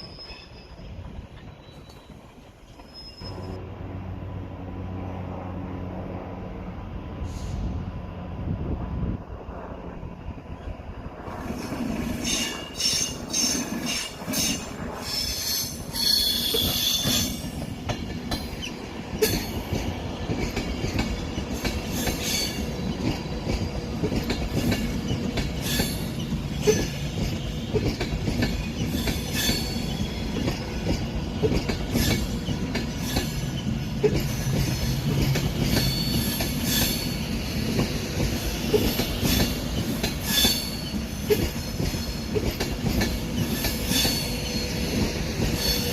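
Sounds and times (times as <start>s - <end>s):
train wheels squealing: 0.0s - 3.6s, 7.2s - 7.7s, 11.4s - 45.9s
train rumble: 0.0s - 45.9s.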